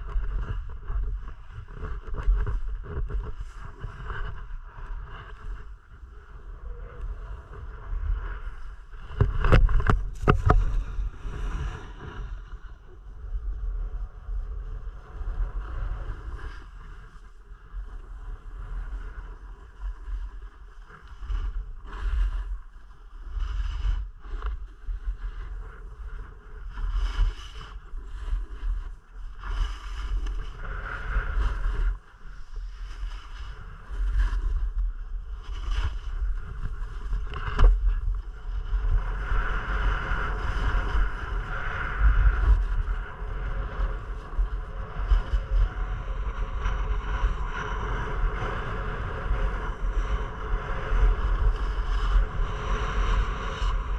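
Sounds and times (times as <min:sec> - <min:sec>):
wind on microphone: 0:00.0 - 0:53.9
skis scraping on snow: 0:00.2 - 0:06.0, 0:07.2 - 0:12.7, 0:14.2 - 0:53.9.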